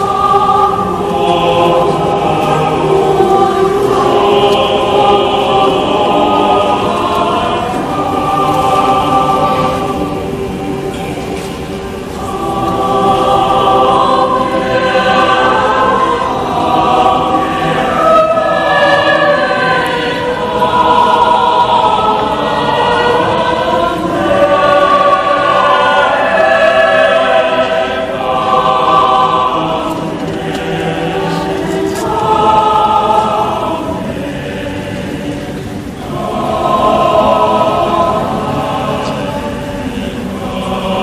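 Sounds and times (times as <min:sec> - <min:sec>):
mixed choir singing a cappella: 0:00.0 - 0:41.0.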